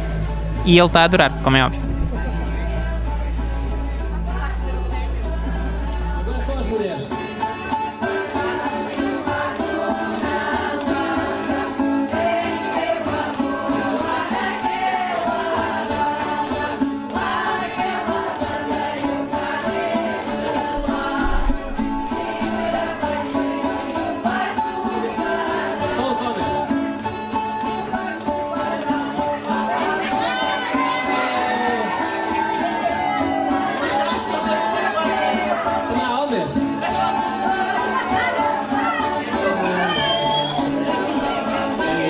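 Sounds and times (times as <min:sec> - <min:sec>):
background music with singing: 0:00.0 - 0:42.0.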